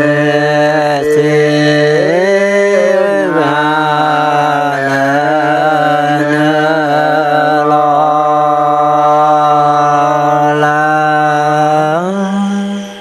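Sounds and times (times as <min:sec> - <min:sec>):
man chanting in held notes: 0:00.0 - 0:13.0.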